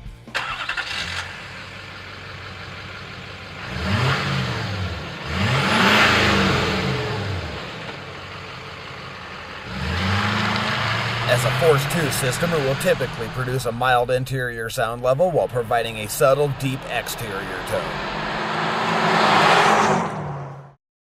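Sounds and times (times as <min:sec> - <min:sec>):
diesel engine idling and revving: 0:00.0 - 0:20.8.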